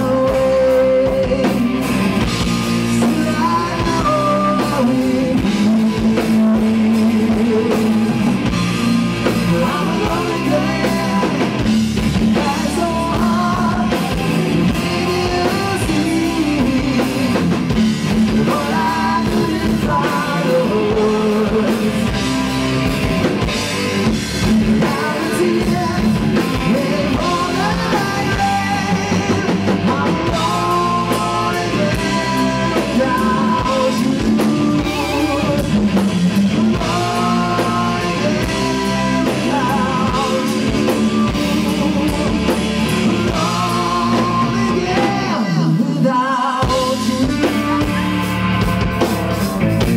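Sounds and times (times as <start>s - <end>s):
bass guitar: 0.0s - 49.9s
drum kit: 0.0s - 49.9s
electric guitar: 0.0s - 49.9s
man singing lead: 0.0s - 49.9s.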